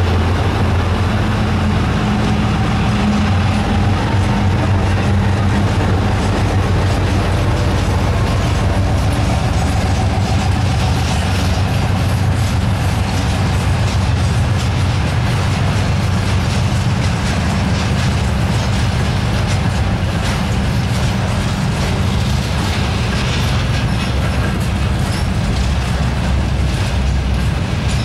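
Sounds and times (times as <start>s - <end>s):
freight train rumbling past: 0.0s - 28.0s
wheel clatter over rail joints: 0.0s - 28.0s.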